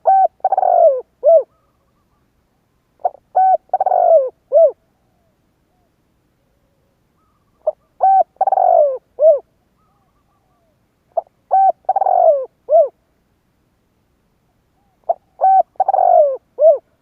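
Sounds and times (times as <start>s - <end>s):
dove cooing: 0.0s - 2.2s, 3.0s - 13.0s, 14.8s - 17.0s.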